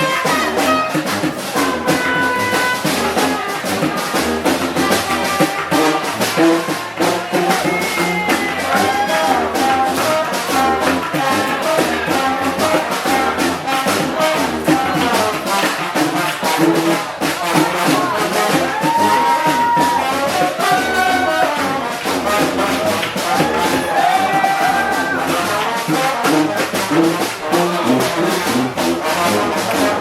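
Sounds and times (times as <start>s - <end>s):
brass horns playing melody: 0.0s - 30.0s
steady drum beat: 0.0s - 30.0s.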